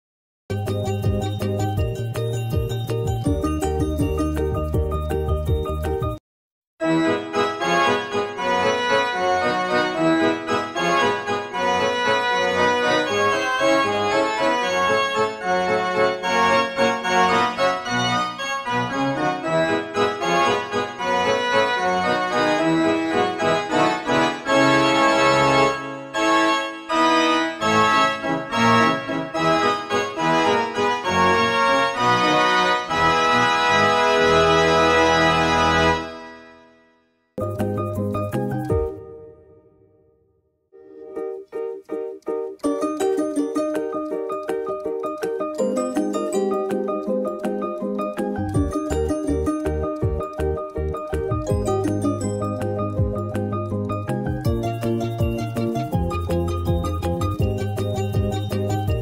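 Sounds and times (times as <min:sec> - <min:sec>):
instrumental keyboard music: 0:00.5 - 0:06.2, 0:06.8 - 0:59.0.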